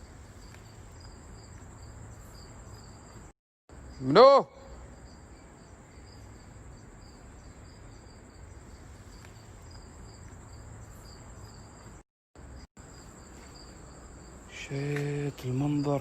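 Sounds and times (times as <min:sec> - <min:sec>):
crickets chirping: 0:00.0 - 0:16.0
high insect trill: 0:00.0 - 0:16.0.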